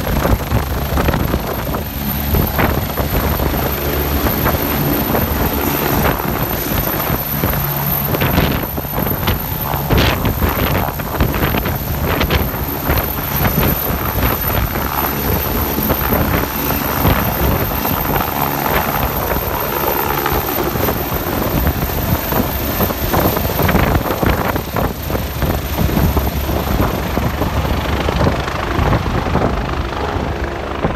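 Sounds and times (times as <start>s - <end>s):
helicopter rotor and turbine noise: 0.0s - 30.9s.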